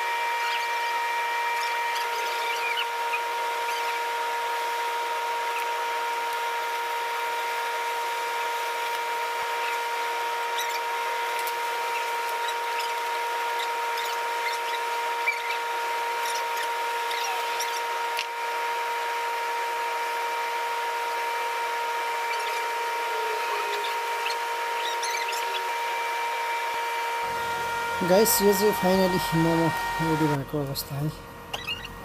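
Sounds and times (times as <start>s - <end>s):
machine whining: 0.0s - 32.0s.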